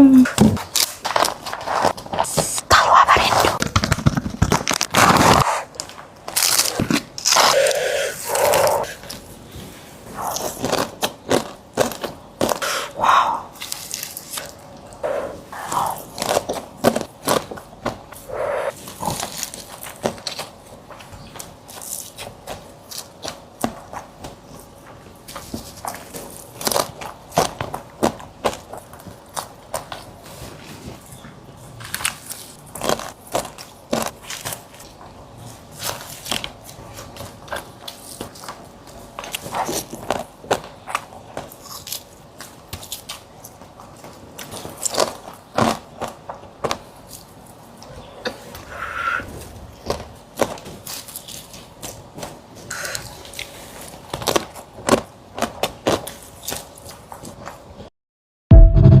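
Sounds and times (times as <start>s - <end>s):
crunchy chewing: 0.3s - 9.3s, 10.0s - 24.7s, 25.3s - 57.6s.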